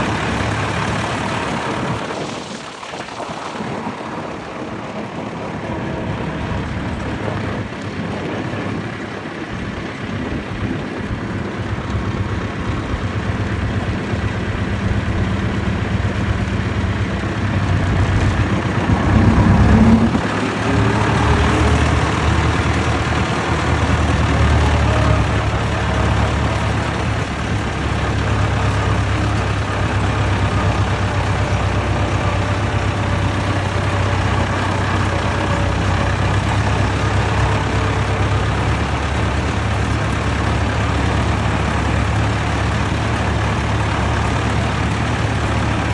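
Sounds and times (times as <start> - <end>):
tractor engines running: 0.0 - 45.9.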